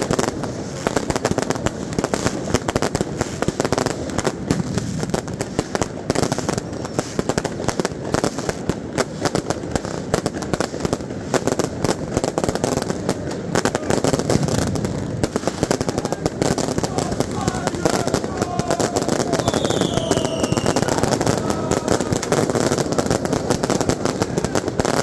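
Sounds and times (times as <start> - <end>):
firecracker bangs and crackle: 0.0 - 25.0.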